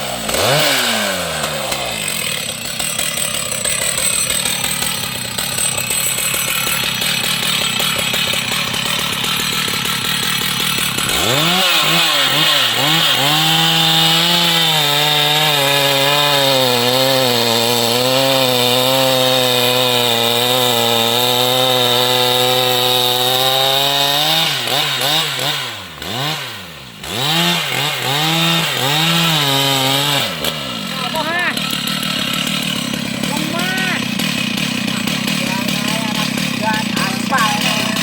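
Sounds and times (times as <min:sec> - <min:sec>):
chainsaw at full throttle: 0:00.0 - 0:38.0.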